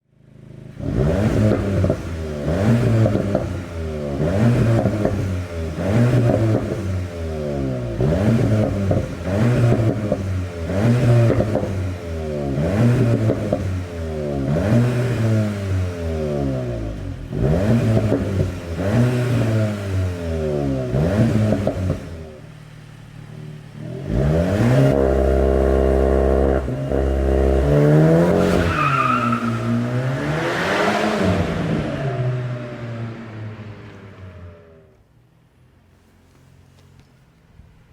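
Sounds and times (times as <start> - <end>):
car engine revving: 0.4 - 35.0.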